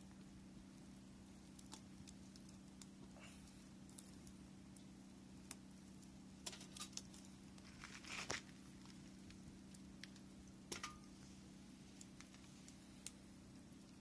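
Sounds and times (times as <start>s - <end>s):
campfire crackling and popping: 0.0s - 14.0s
steady low hum: 0.0s - 14.0s.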